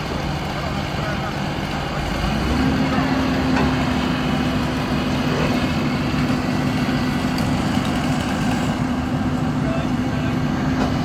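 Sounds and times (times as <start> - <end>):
large engine running: 0.0 - 11.0.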